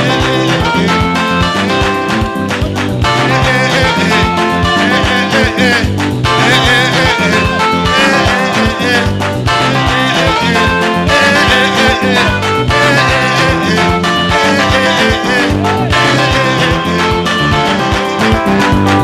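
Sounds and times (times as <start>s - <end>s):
upbeat gospel music: 0.0s - 19.0s.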